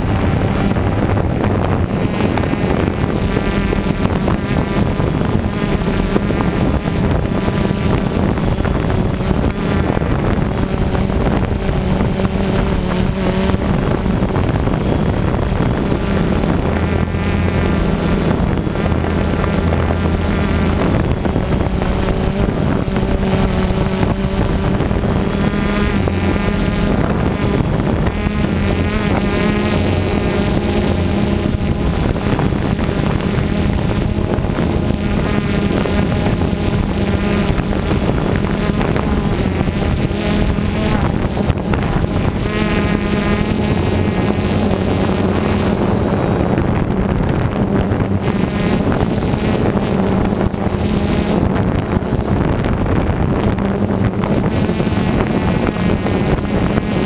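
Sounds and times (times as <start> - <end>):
drone motors whining: 0.0 - 57.0
wind buffeting microphone: 0.0 - 57.0.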